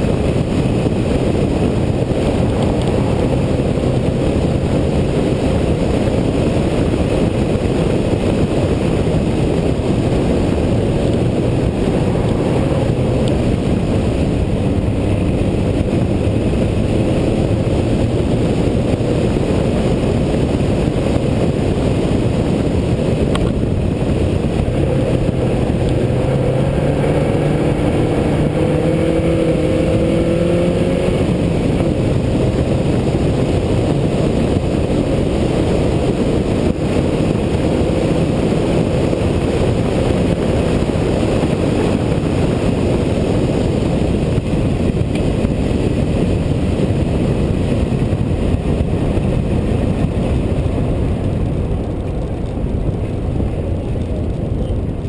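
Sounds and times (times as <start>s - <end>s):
car engine pulling hard: 0.0s - 55.0s
wind and road noise: 0.0s - 55.0s.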